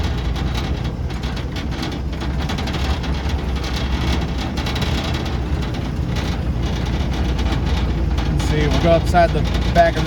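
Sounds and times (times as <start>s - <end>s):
crackling and clattering: 0.0s - 10.0s
engine droning at low speed: 0.0s - 10.0s.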